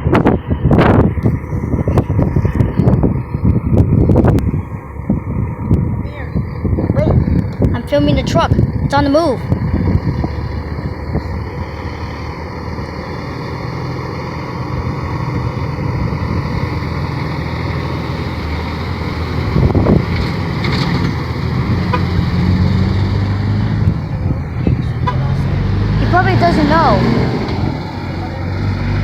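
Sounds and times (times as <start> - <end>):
rush of noise: 0.0 - 29.0
truck engine humming: 0.0 - 29.0.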